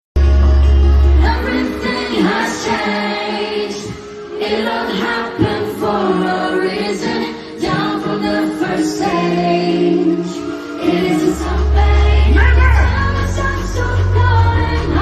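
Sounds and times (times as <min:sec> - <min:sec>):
song with singing voices: 0:00.2 - 0:15.0.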